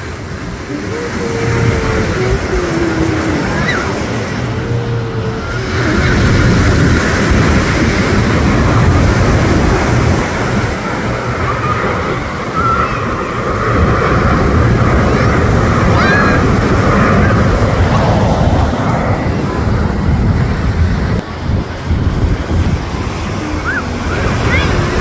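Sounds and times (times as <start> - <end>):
surf breaking on a beach: 0.0 - 25.0
wind buffeting microphone: 0.0 - 25.0.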